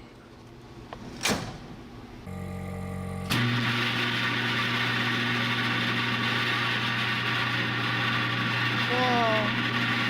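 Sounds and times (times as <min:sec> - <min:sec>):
microwave oven electrical hum: 0:00.0 - 0:10.0.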